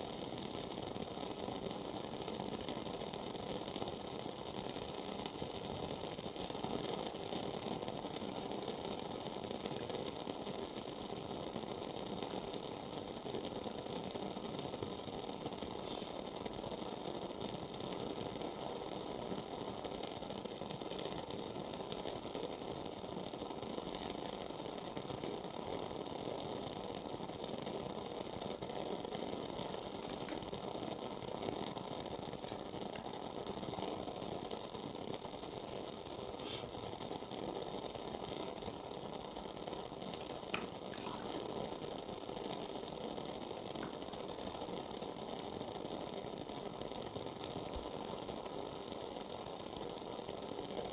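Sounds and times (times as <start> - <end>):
candle crackling: 0.0 - 50.9.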